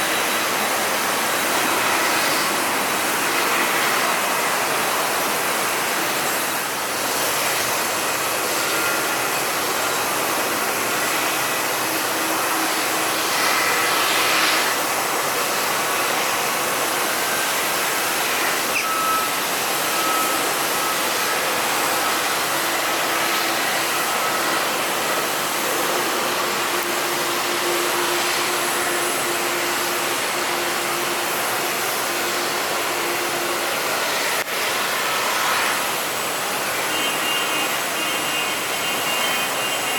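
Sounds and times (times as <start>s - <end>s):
jet engines running at low power: 0.0s - 39.9s.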